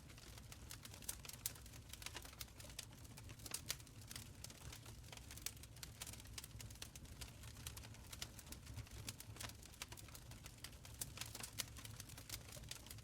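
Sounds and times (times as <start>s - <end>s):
wood fire crackling: 0.1s - 13.0s.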